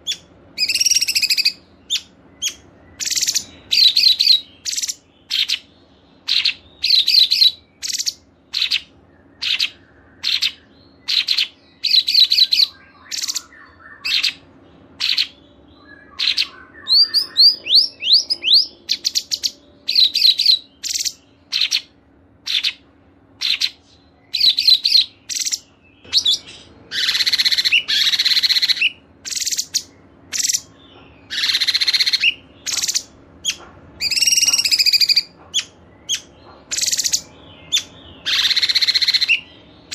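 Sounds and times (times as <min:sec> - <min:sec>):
faint low hum: 0:00.0 - 0:39.9
songbirds singing: 0:00.0 - 0:39.9.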